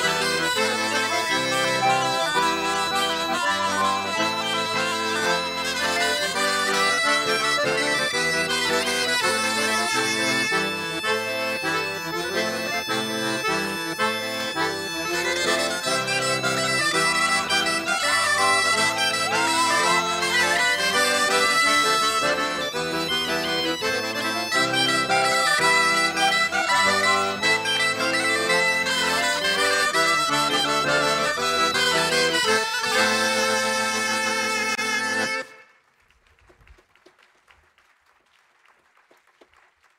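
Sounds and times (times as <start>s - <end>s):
steady accompaniment: 0.0s - 35.7s
reedy folk dance melody: 0.0s - 35.8s.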